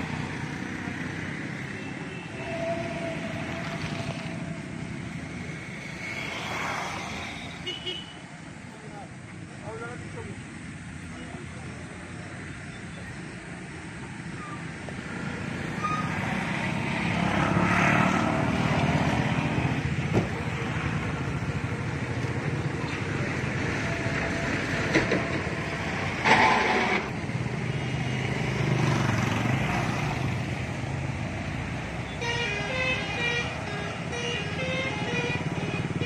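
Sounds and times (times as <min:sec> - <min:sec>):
vehicle engines passing in traffic: 0:00.0 - 0:36.0.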